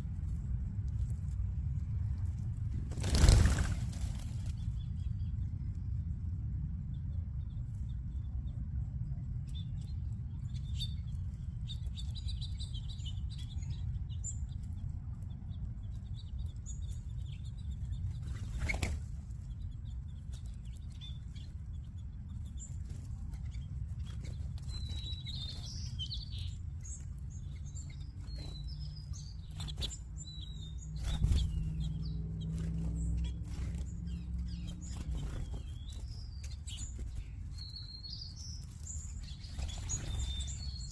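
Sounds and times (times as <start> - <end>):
flock of small birds chirping: 0.0 - 40.9.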